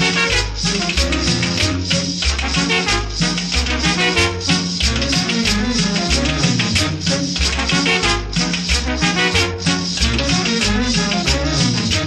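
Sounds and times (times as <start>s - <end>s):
latin dance music: 0.0s - 12.0s.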